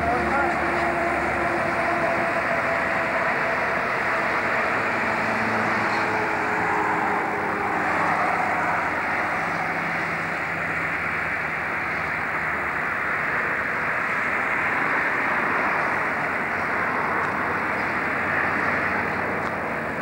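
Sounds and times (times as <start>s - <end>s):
faint low engine hum: 0.0s - 20.0s
vehicle noise rush: 0.0s - 20.0s.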